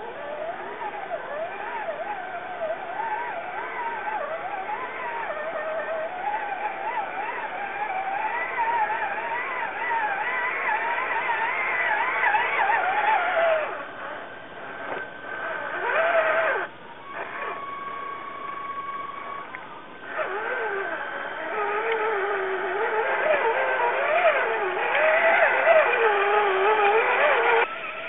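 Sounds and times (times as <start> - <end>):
toy car electric motor whining: 0.0 - 28.0.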